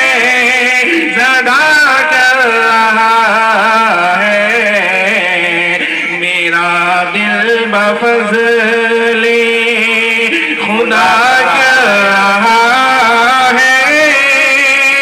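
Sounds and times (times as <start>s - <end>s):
man singing through microphone: 0.0s - 15.0s.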